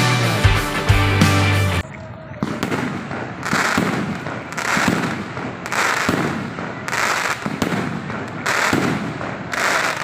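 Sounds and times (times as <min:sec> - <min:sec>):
fireworks bangs with crackle: 0:01.9 - 0:10.0.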